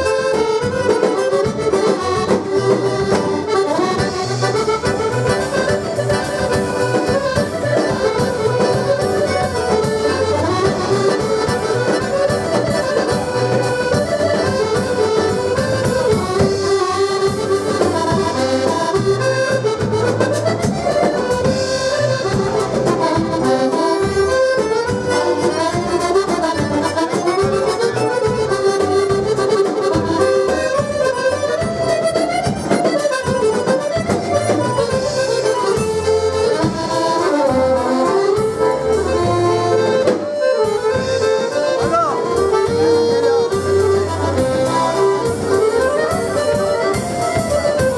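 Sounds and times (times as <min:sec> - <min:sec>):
button accordions playing: 0:00.0 - 0:47.9.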